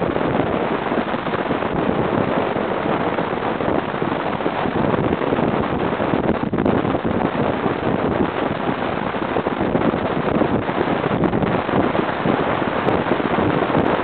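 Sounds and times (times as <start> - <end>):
wind rushing past car: 0.0 - 14.0.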